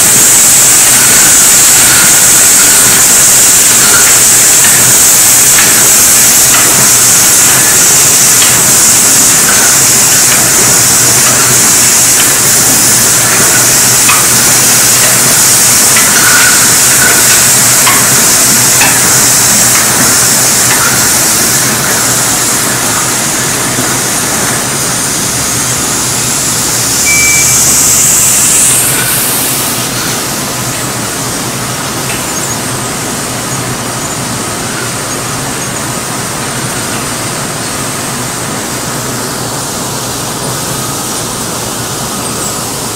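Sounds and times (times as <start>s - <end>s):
loud steady hiss: 0.0s - 42.9s
low machine hum: 0.0s - 42.9s.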